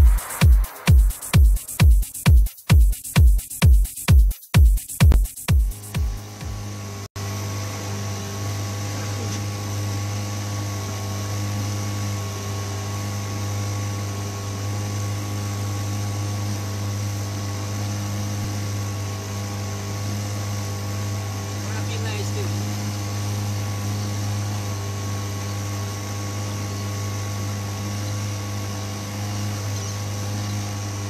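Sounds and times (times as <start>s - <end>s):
outboard motor running: 5.1s - 31.0s.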